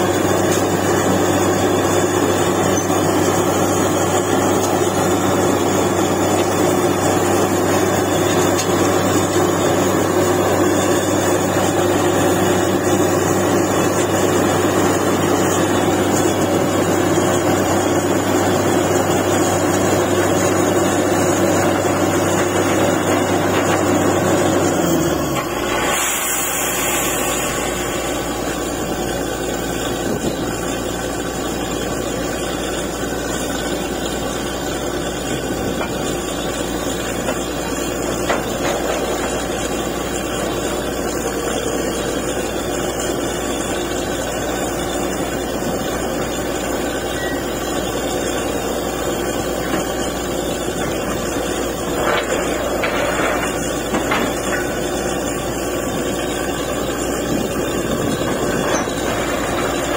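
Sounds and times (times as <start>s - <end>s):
drilling rig engine running: 0.0s - 59.9s.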